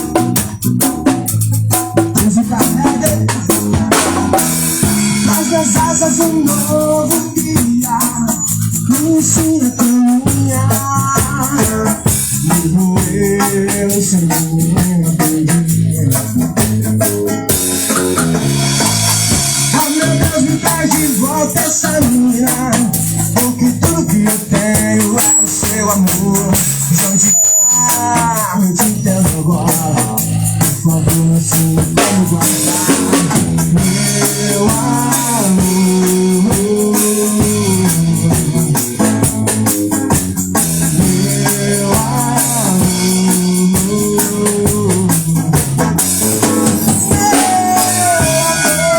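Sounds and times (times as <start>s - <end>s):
acoustic guitar: 0.0s - 48.9s
bass guitar: 0.0s - 48.9s
drum kit: 0.0s - 48.9s
shaker percussion: 0.0s - 48.9s.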